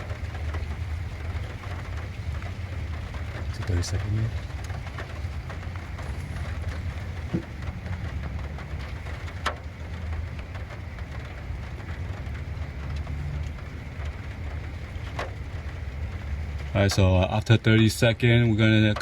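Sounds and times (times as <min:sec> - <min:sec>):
low rumble: 0:00.0 - 0:17.6
steady rain falling: 0:00.0 - 0:19.0.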